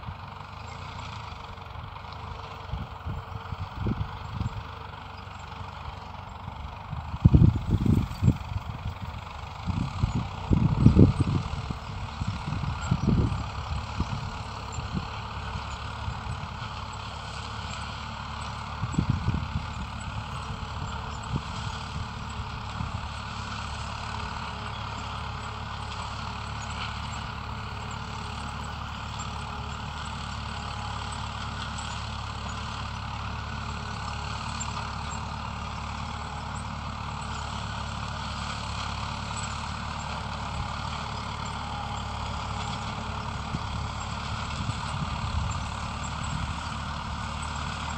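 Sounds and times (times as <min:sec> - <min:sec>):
farm vehicle engine humming: 0:00.0 - 0:47.9.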